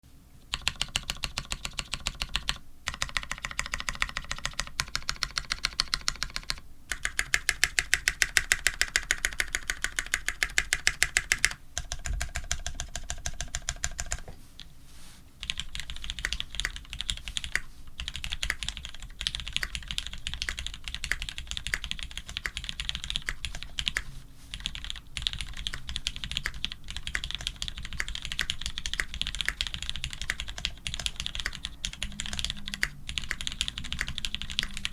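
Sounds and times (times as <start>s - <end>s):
mechanical keyboard typing: 0.5s - 14.2s, 15.4s - 34.9s.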